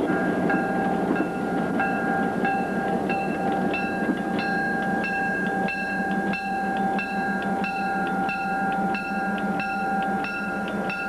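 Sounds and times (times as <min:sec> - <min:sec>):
locomotive bell ringing: 0:00.0 - 0:11.0.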